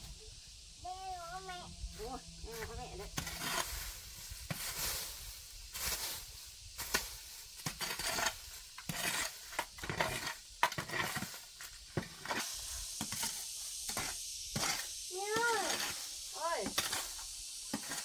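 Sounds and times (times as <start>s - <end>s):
debris rustling and scraping: 1.1s - 18.0s.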